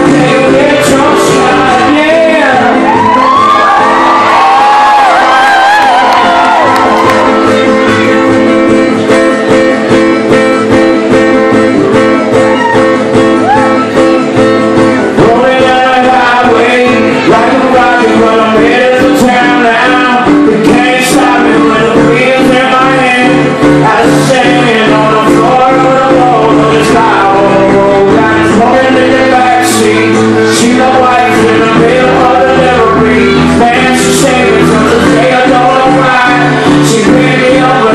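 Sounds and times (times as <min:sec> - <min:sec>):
man singing: 0:00.0 - 0:06.6, 0:07.2 - 0:12.9, 0:13.7 - 0:37.9
acoustic guitar: 0:00.0 - 0:37.9.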